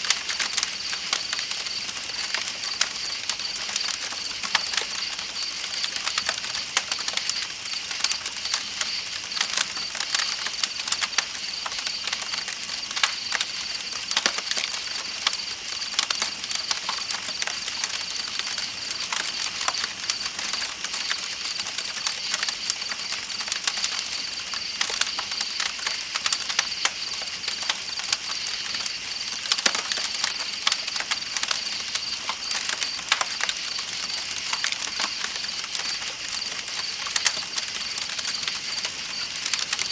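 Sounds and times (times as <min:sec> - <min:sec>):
campfire crackling and popping: 0:00.0 - 0:39.9
night insects chirping: 0:00.0 - 0:39.9.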